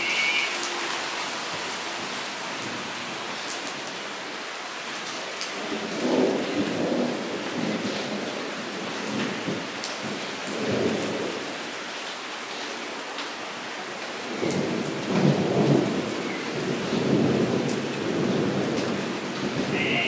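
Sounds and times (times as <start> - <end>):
rain falling into a puddle: 0.0 - 20.0.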